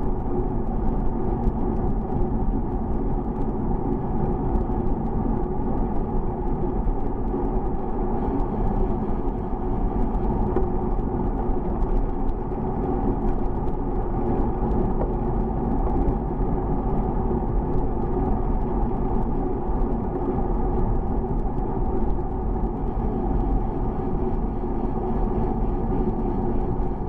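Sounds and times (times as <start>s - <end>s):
wind and road rumble: 0.0s - 27.0s.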